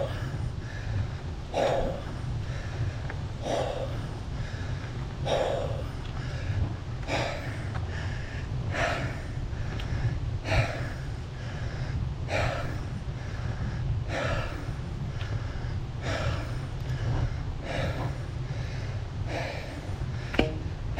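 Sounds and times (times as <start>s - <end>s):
person breathing hard: 0.0s - 20.9s
steady low rumble: 0.0s - 20.9s.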